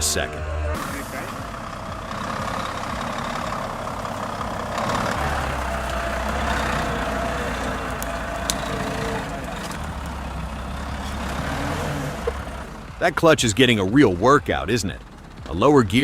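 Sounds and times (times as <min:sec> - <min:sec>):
heavy truck engine running: 0:00.0 - 0:16.0.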